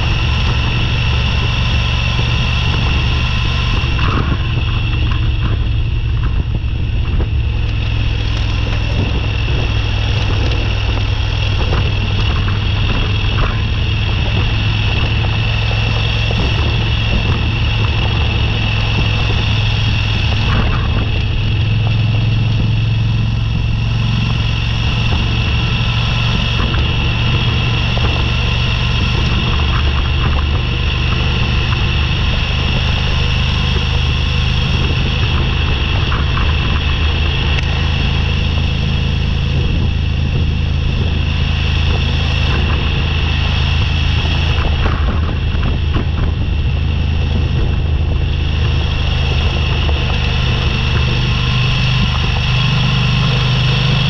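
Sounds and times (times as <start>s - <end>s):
gravel road noise: 0.0s - 54.0s
motorcycle engine running: 0.0s - 54.0s.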